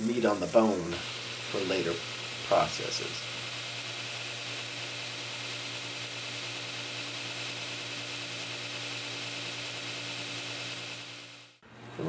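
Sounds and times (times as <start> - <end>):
belt grinder running: 0.0 - 11.6.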